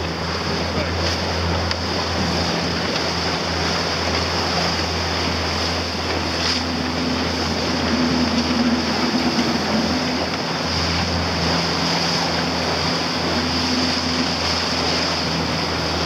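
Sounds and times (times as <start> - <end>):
boat motor humming: 0.0 - 16.0
water churning in wake: 0.0 - 16.0.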